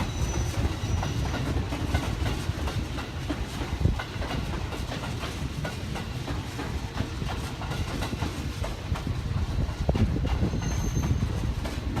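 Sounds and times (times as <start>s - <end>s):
train rumble: 0.0s - 12.0s
wheels clicking over rails: 0.0s - 12.0s.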